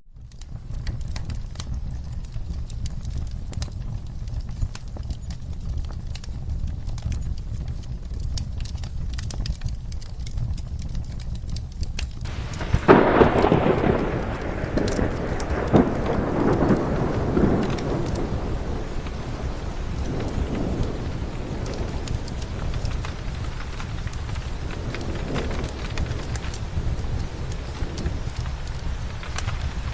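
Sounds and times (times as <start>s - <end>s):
fire crackling: 0.0s - 29.9s
rain: 0.0s - 29.9s
rolling thunderclap: 0.1s - 29.9s.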